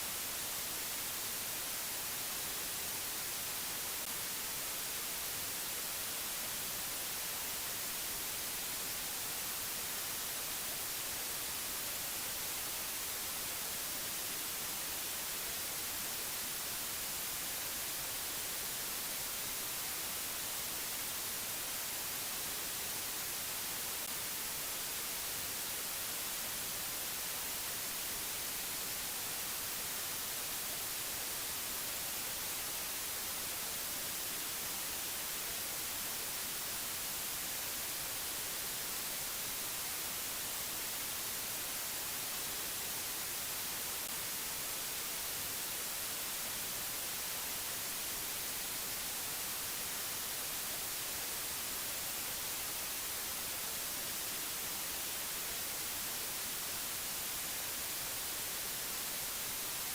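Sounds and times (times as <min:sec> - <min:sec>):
steady static hiss: 0:00.0 - 0:59.9.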